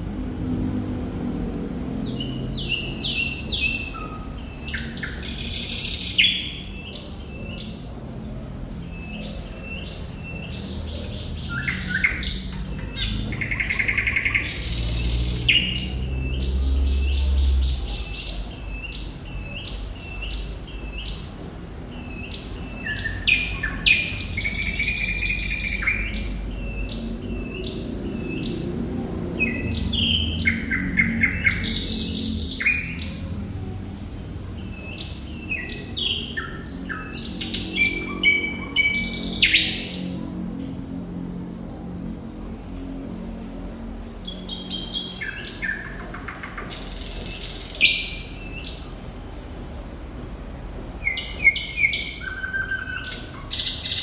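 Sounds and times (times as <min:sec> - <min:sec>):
nightingale singing: 0:02.0 - 0:08.0, 0:08.9 - 0:33.8, 0:34.5 - 0:40.2, 0:44.2 - 0:49.5, 0:50.2 - 0:54.0.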